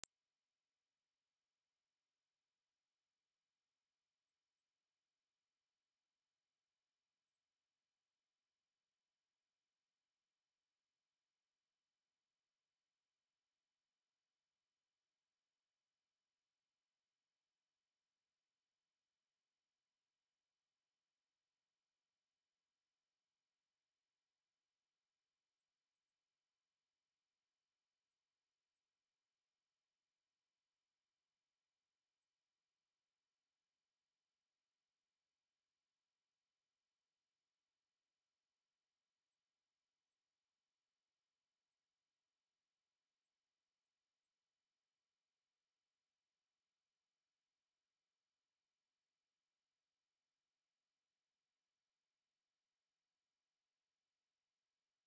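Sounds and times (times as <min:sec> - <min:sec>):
high-pitched sine test tone: 0:00.0 - 0:55.0.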